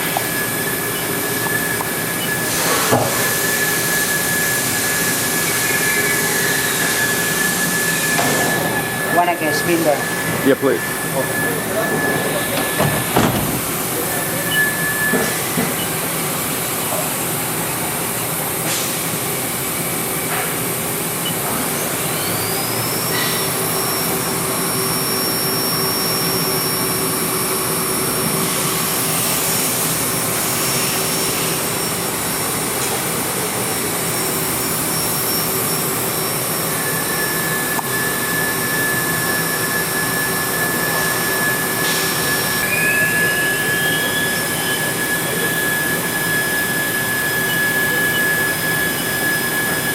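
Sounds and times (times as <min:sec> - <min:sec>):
machining spindle hum and whine: 0:00.0 - 0:49.9.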